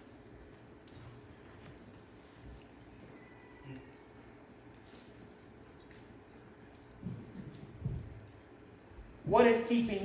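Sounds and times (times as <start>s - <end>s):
faint steady low hum: 0.0s - 10.0s.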